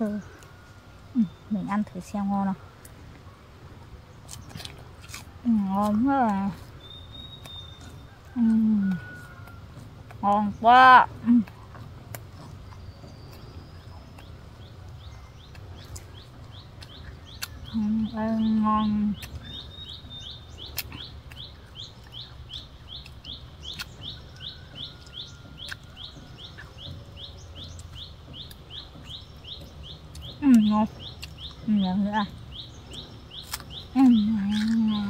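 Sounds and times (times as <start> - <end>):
bird chirping: 0.0 - 35.0.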